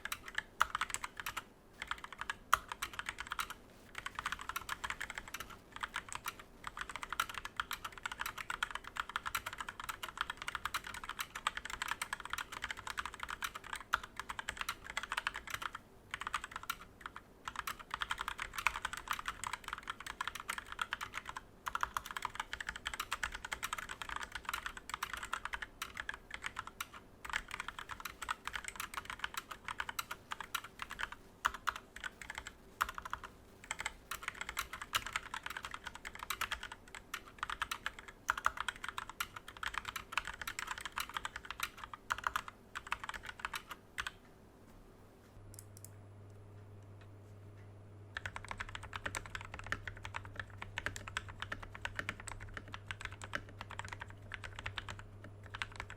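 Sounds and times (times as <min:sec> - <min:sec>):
fast mechanical keyboard typing: 0:00.0 - 0:44.2, 0:48.1 - 0:55.9.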